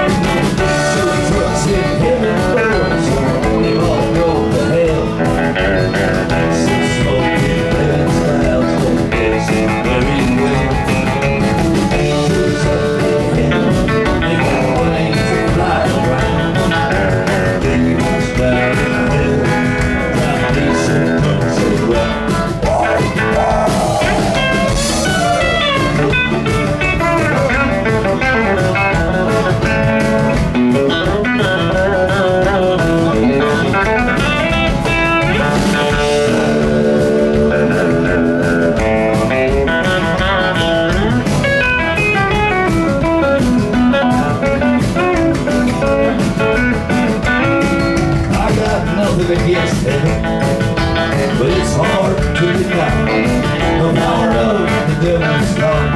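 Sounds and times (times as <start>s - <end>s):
bass guitar: 0.0s - 55.9s
drums: 0.0s - 55.9s
lead guitar bending notes: 0.0s - 55.9s.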